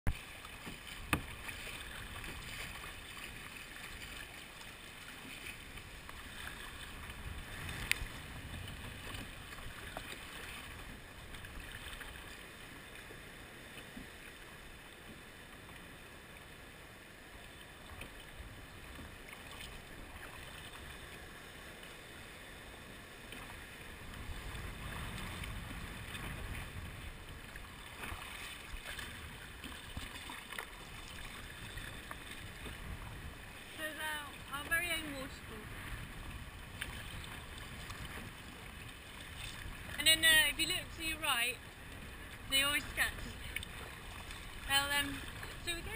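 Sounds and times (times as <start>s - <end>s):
water splashing around kayak: 0.1s - 45.9s.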